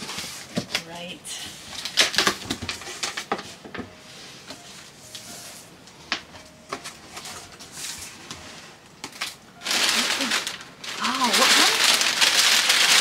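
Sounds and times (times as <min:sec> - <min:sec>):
packing paper rustling: 0:00.0 - 0:13.0.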